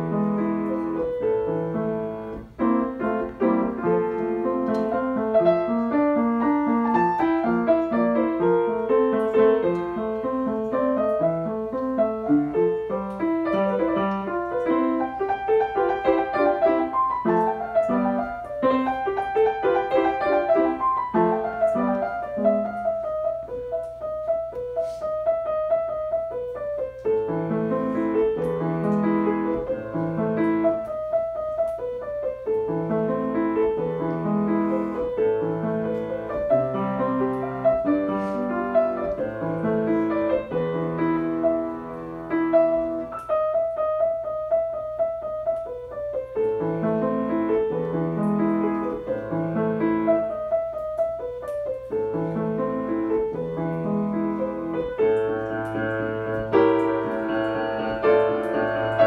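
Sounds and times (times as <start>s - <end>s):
solo piano piece: 0.0s - 59.0s.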